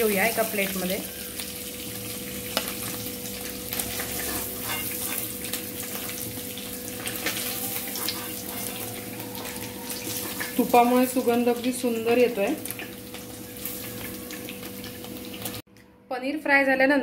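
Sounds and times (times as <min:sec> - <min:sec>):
ghee sizzling and crackling: 0:00.0 - 0:15.7.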